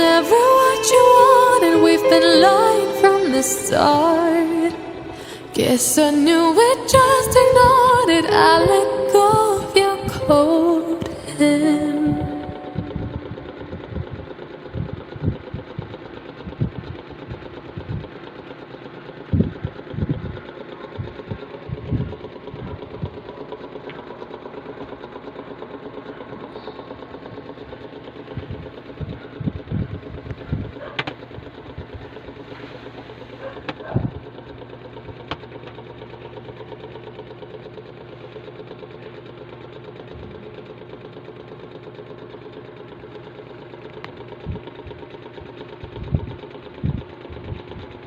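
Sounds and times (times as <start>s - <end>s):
small motor humming: 0.0s - 48.0s.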